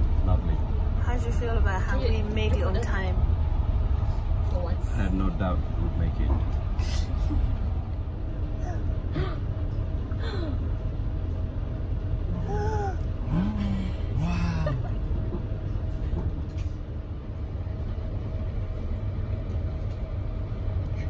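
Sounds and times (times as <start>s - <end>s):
faint hum: 0.0s - 21.0s
train running rumble: 0.0s - 21.0s.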